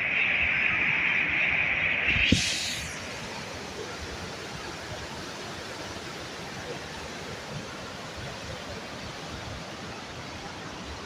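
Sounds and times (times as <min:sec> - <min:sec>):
waterfall rushing: 0:01.7 - 0:11.0.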